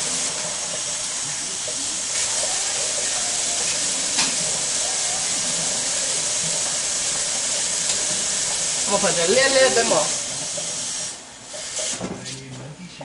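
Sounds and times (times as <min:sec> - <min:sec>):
meatballs sizzling in skillet: 0:00.0 - 0:11.2.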